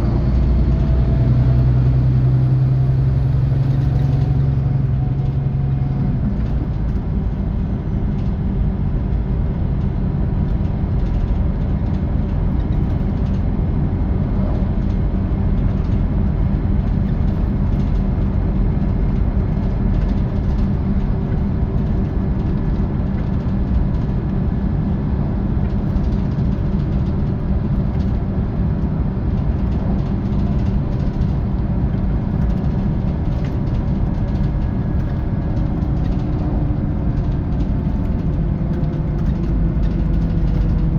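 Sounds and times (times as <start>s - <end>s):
bus diesel engine running: 0.0s - 40.9s
road and tyre noise: 0.0s - 40.9s.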